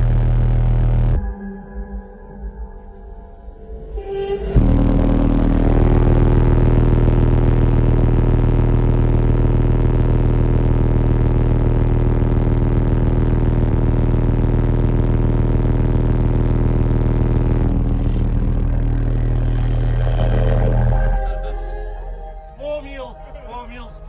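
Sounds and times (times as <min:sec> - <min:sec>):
low bass drone from subwoofers: 0:00.0 - 0:02.6, 0:03.4 - 0:24.0.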